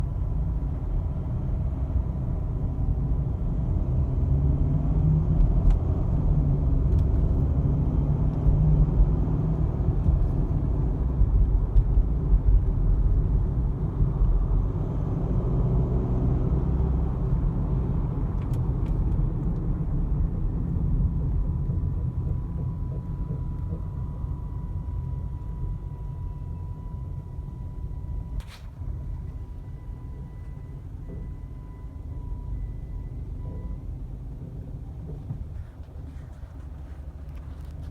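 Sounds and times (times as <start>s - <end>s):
car road noise rumble: 0.0s - 37.9s.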